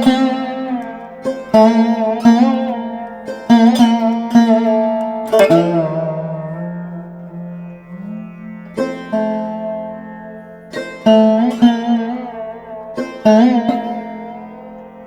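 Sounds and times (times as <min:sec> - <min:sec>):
plucked strings with bending notes: 0:00.0 - 0:15.0.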